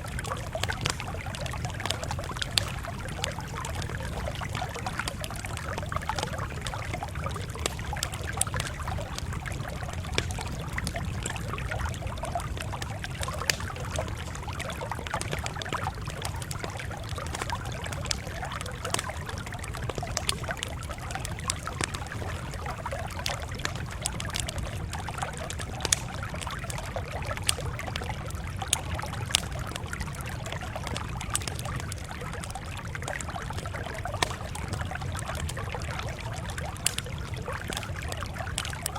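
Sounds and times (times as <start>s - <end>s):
campfire crackling: 0.0s - 38.9s
fire popping: 0.0s - 38.9s.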